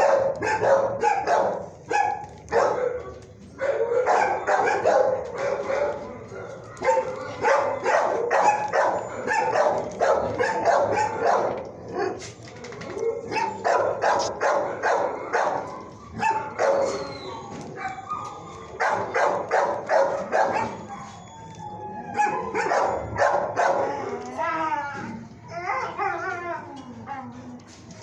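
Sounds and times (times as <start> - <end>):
dogs barking: 0.0 - 21.3, 22.0 - 24.2.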